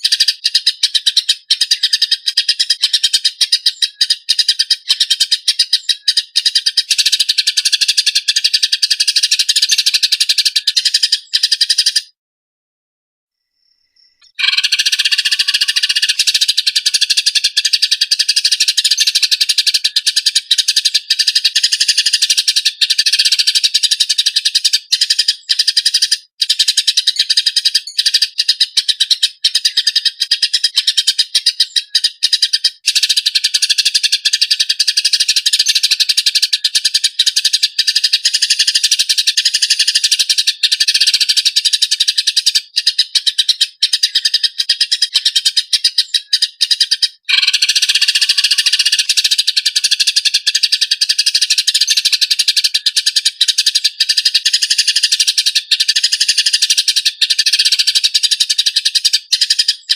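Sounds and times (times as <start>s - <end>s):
sparrows chattering harshly: 0.0s - 12.2s, 13.9s - 59.9s.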